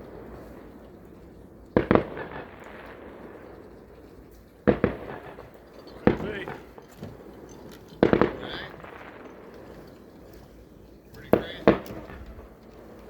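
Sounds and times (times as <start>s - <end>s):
fireworks bangs: 1.7s - 13.0s.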